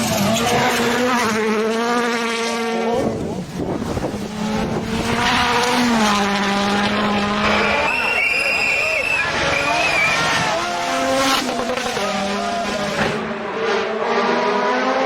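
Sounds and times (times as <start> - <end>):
rally car engine whining: 0.0 - 15.0.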